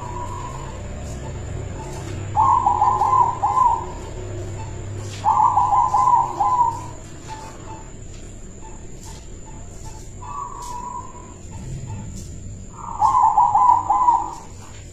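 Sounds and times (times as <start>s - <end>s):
dove cooing: 0.0s - 8.0s, 8.6s - 14.9s.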